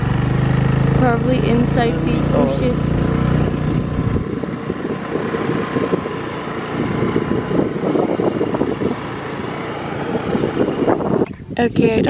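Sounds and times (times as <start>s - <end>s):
vehicle engine hum: 0.0s - 12.0s
wind buffeting microphone: 1.0s - 12.0s.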